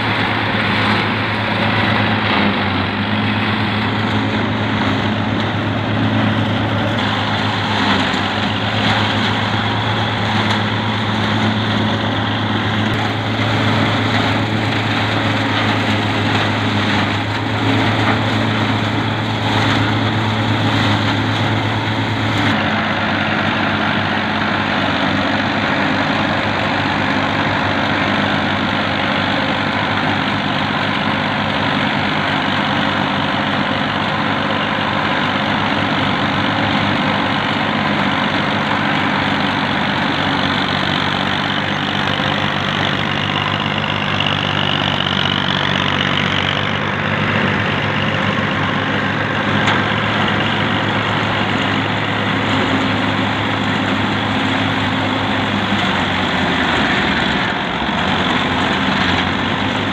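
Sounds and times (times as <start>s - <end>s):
silage harvester mechanical din: 0.0s - 59.9s
tractor diesel engine running: 0.0s - 59.9s.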